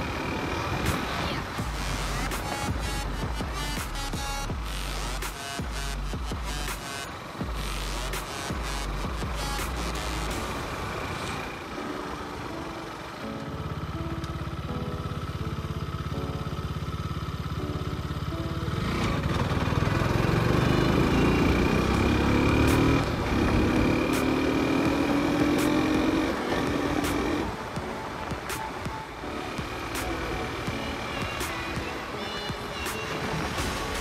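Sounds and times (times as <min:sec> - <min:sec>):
background music: 0:00.0 - 0:34.0
motorcycle engine accelerating: 0:00.0 - 0:34.0.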